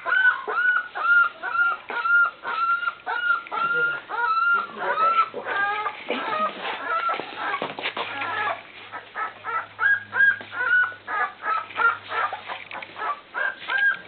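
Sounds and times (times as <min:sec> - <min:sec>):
puppies whining and squeaking: 0:00.0 - 0:14.0.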